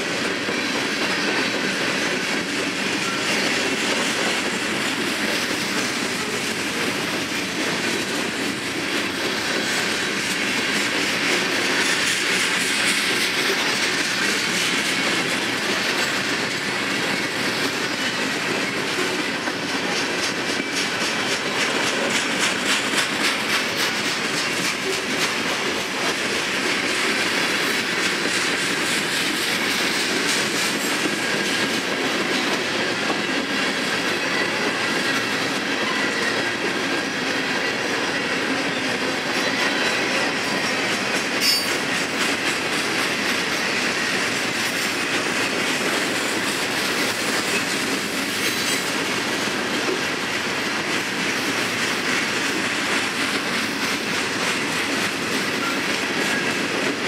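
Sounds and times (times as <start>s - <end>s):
freight train rumbling past: 0.0s - 57.0s
train wheels clacking over rail joints: 0.0s - 57.0s.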